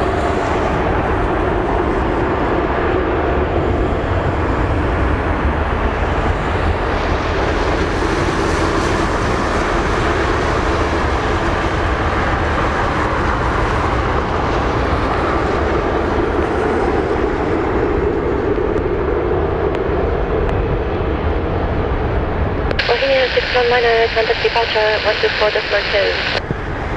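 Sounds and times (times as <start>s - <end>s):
jet engines running: 0.0s - 26.9s.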